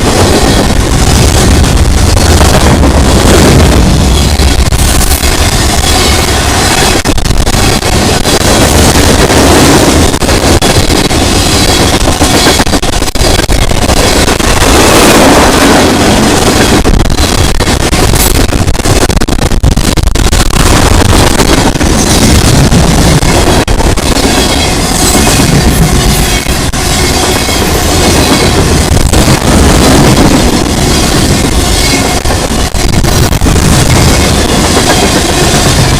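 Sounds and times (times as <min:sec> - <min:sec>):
freight train rumbling past: 0:00.0 - 0:35.9
wind buffeting microphone: 0:00.0 - 0:35.9.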